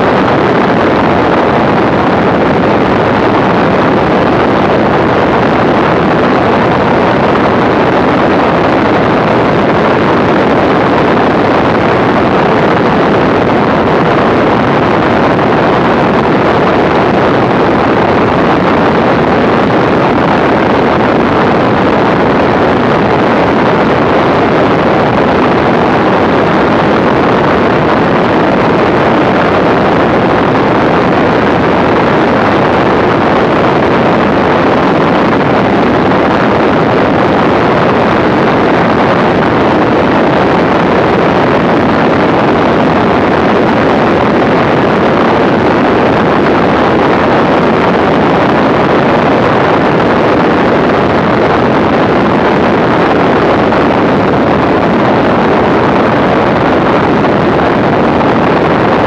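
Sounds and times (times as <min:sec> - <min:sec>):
aircraft engine drone: 0:00.0 - 0:59.0
wind rush on microphone: 0:00.0 - 0:59.0.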